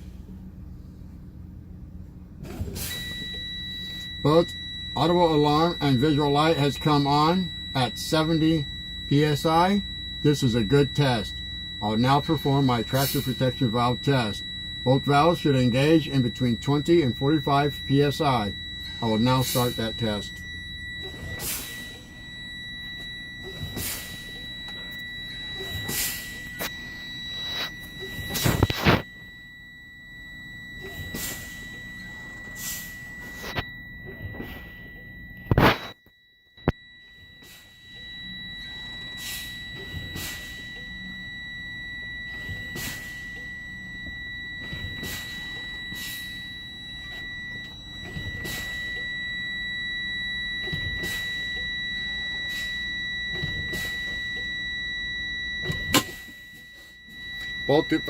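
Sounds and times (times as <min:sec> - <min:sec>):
high warning buzzer: 0:02.4 - 0:58.0.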